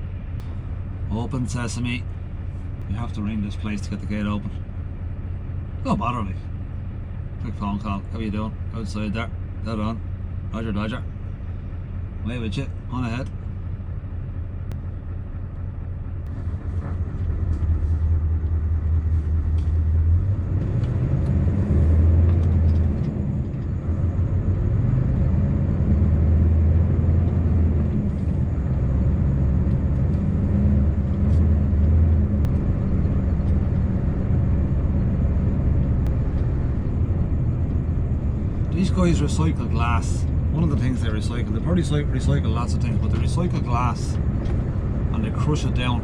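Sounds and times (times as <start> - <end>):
diesel truck engine pulling away: 3.4 - 46.0.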